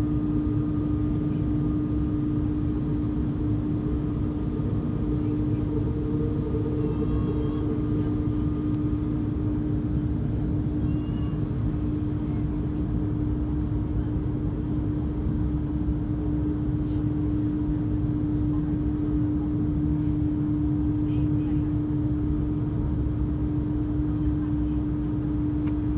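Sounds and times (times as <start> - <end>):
jet engines rumbling: 0.0 - 25.9.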